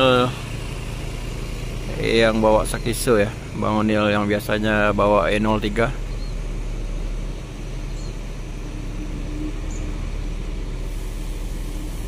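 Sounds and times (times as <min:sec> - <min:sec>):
bus engines rumbling: 0:00.0 - 0:12.0
passing traffic: 0:00.0 - 0:12.0.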